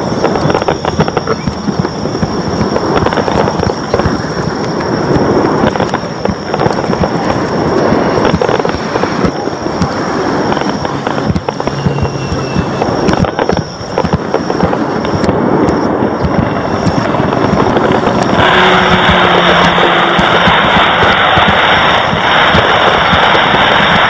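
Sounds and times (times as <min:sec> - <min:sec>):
fireworks bursts and bangs: 0:00.0 - 0:24.0
fireworks crackling hiss: 0:00.0 - 0:24.0.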